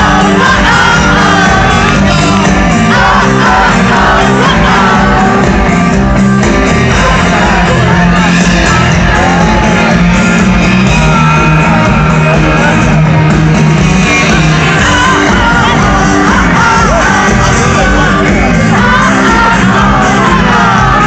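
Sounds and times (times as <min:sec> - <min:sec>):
crowd singing and shouting: 0:00.0 - 0:21.0
rock band playing loudly: 0:00.0 - 0:21.0.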